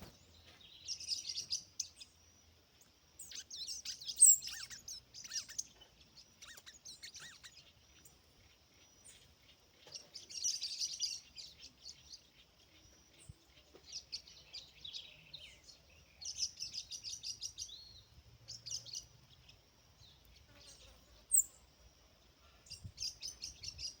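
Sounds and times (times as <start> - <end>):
sparrow chirping: 0.0 - 21.7, 22.4 - 24.0.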